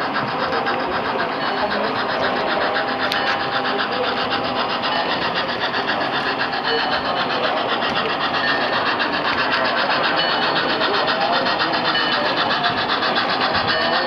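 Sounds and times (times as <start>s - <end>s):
model trains running: 0.0s - 14.0s.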